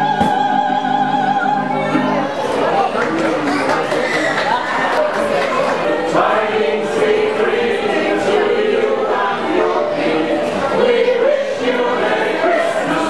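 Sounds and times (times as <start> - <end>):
choir singing a carol: 0.0 - 13.0.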